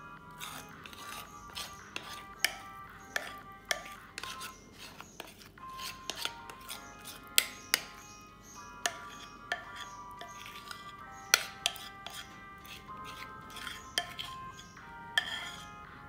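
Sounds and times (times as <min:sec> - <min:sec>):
background music with held notes: 0:00.0 - 0:16.0
utensil scraping a mixing bowl: 0:00.3 - 0:15.9.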